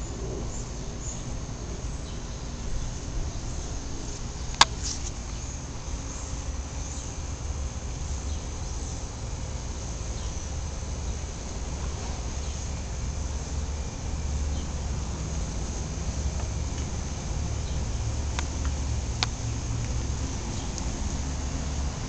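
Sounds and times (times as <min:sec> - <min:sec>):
insects chirring: 0:00.0 - 0:22.0
low steady rumble: 0:00.0 - 0:22.0.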